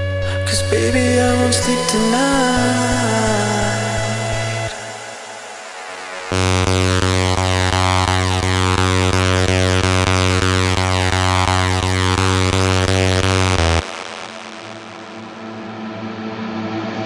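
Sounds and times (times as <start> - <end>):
pulsing synth bass dance music: 0.0 - 15.9.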